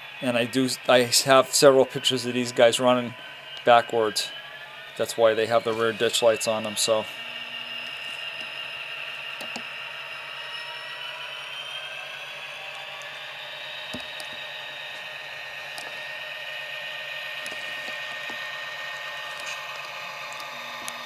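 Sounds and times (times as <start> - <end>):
diesel engine sound from small speaker: 0.0 - 21.0
high turbocharger whine: 0.0 - 21.0.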